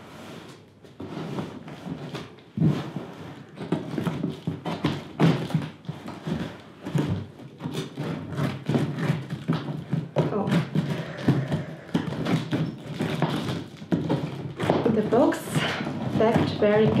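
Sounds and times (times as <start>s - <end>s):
scissors scraping packing tape: 1.5s - 11.2s, 11.9s - 17.0s.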